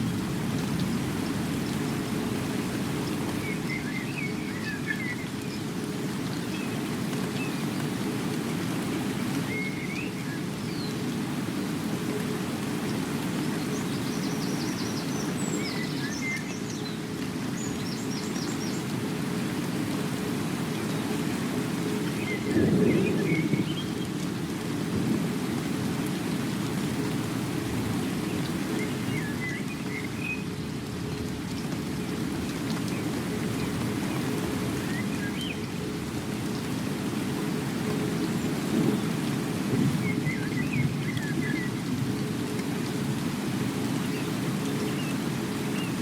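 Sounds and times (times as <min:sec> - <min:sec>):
steady rain: 0:00.0 - 0:46.0.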